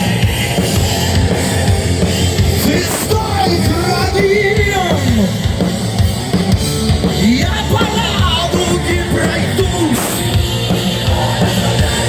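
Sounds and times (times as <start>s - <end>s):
bending lead guitar melody: 0.0s - 12.0s
heavy metal band playing live: 0.0s - 12.0s.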